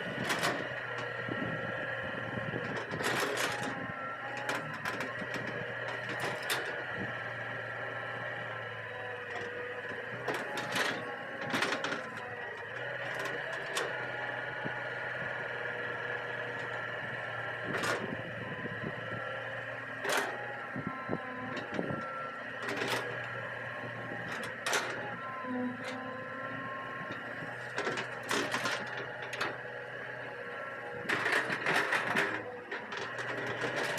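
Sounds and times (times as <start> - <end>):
excavator engine whining: 0.0 - 33.9.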